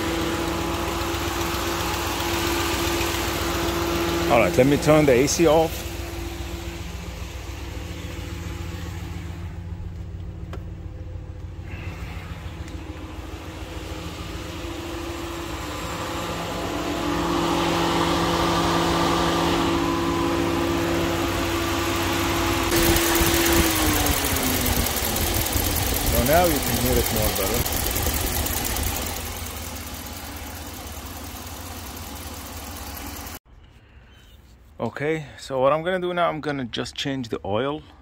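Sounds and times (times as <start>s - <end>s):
car engine idling: 0.0s - 33.4s.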